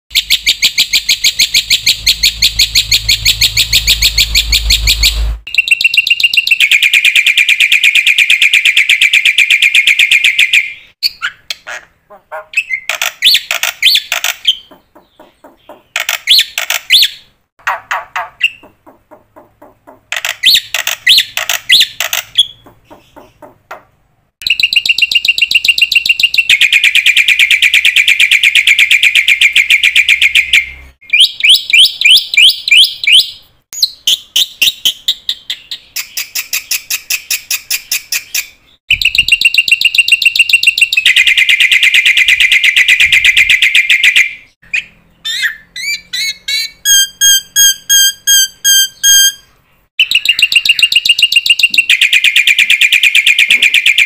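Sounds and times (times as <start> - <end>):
bird chirping: 0.1 - 54.0.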